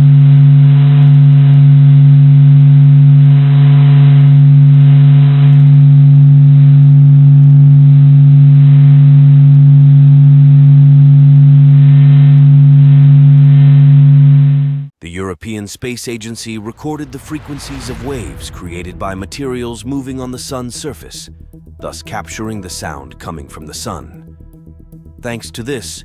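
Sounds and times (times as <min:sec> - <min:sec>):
deep steady hum with overtones: 0:00.0 - 0:15.0, 0:16.6 - 0:26.0.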